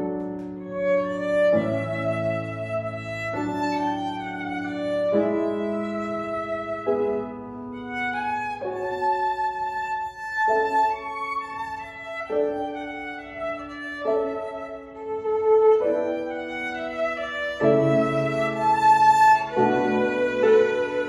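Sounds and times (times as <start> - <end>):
piano chords: 0.0 - 21.0
violin long bowed notes: 0.0 - 21.0.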